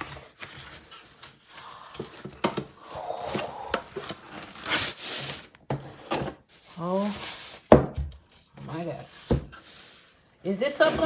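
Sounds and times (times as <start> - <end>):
cardboard and plastic wrap rustling: 0.0 - 2.8, 3.4 - 11.0.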